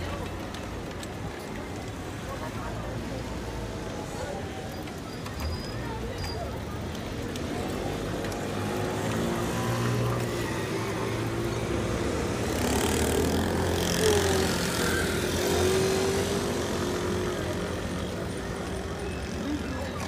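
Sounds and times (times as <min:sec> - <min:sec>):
traffic hum: 0:00.0 - 0:20.0
vehicle engines running: 0:00.0 - 0:20.0.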